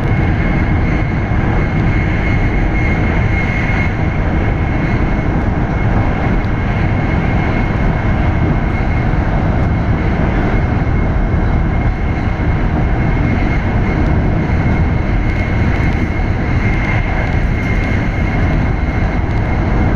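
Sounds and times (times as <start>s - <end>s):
train wheels and air rumble: 0.0s - 19.9s.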